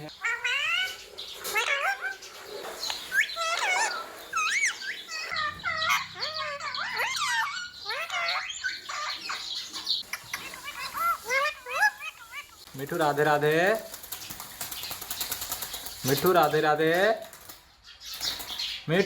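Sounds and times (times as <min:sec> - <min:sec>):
parakeet squawking and chirping: 0:00.0 - 0:17.2.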